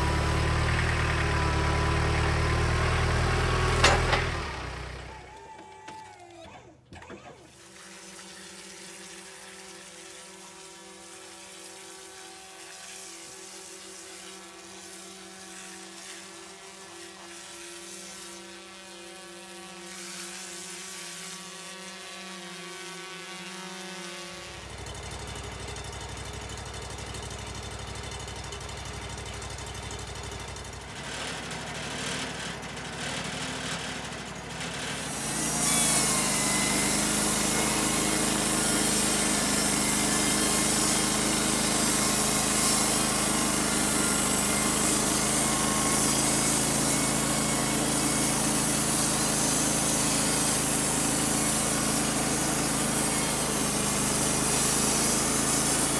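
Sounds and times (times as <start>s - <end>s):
sawmill engine humming: 0.0s - 7.6s, 8.3s - 55.9s
band saw cutting log: 0.0s - 55.9s.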